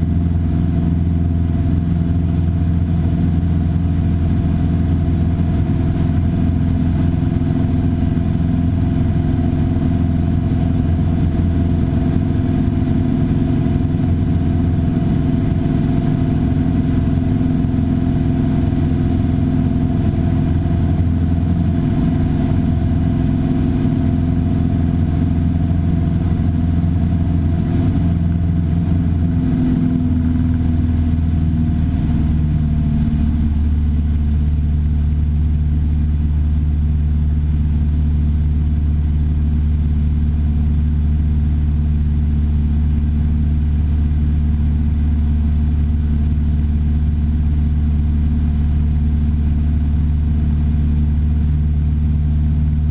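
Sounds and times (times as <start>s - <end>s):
light aircraft engine droning: 0.0s - 52.9s.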